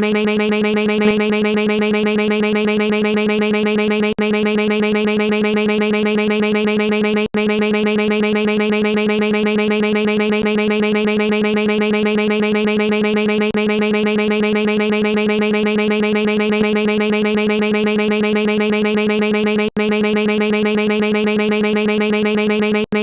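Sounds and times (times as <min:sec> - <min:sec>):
synthesized dialogue blips: 0:00.0 - 0:23.0.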